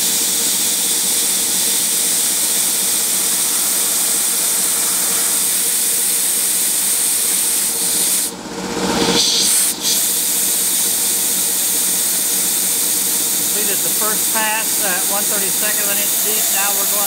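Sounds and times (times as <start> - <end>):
milling machine spindle hiss and hum: 0.0 - 8.4, 9.1 - 17.0.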